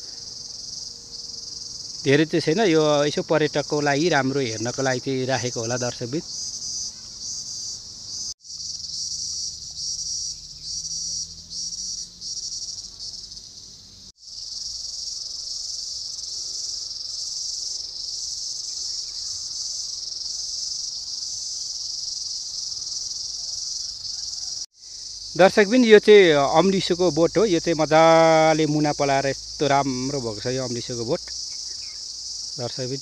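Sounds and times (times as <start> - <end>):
cicadas buzzing: 0.0 - 33.0.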